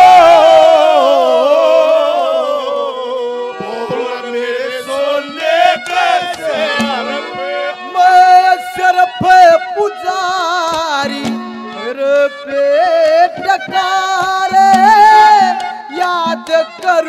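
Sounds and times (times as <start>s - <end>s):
man singing through loudspeakers: 0.0s - 17.0s.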